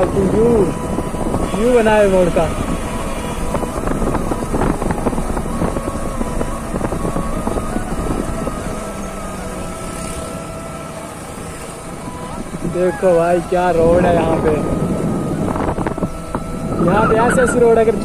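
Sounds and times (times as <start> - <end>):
motorcycle engine cruising: 0.0 - 18.0
wind buffeting microphone: 0.0 - 18.0.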